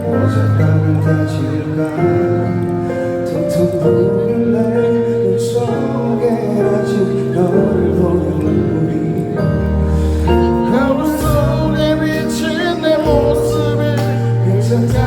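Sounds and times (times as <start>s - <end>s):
band playing slow ballad: 0.0s - 15.0s
person singing: 0.0s - 15.0s.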